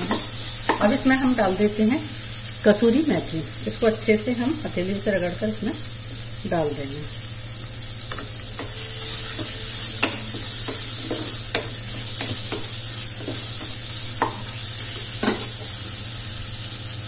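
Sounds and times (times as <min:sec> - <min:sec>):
masala sizzling in a pan: 0:00.0 - 0:17.0.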